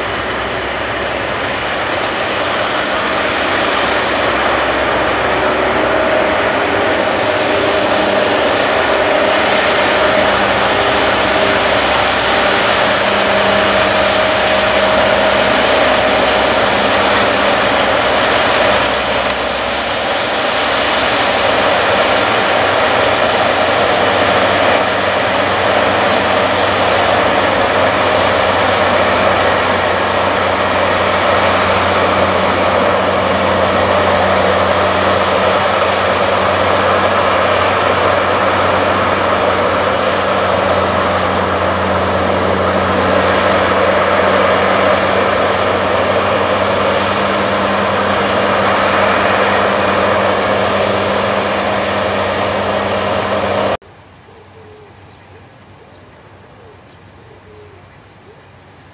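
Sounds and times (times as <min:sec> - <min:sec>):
combine harvester running: 0:00.0 - 0:54.1.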